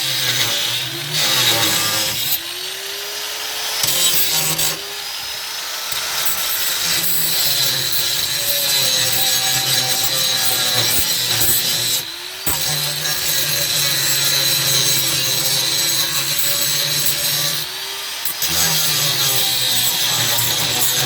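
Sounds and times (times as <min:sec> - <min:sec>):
power tool whining on sheet metal: 0:00.0 - 0:21.0.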